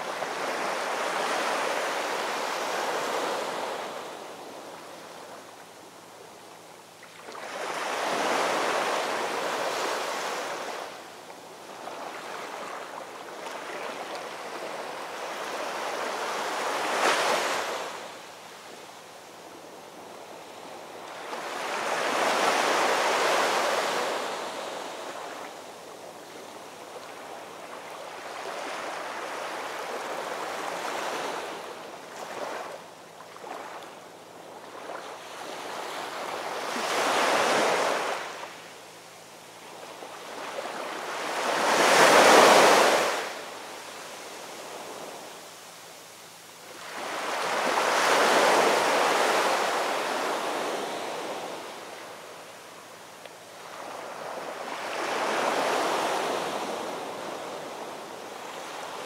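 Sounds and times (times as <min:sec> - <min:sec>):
small waves breaking on beach: 0:00.0 - 0:06.3, 0:07.0 - 0:59.0.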